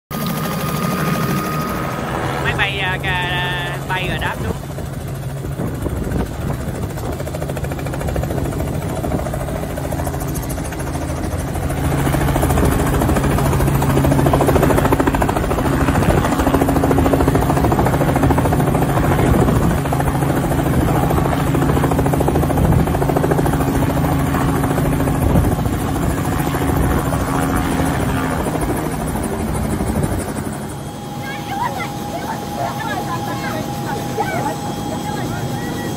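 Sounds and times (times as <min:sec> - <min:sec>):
helicopter rotor and engine hum: 0:00.1 - 0:35.9.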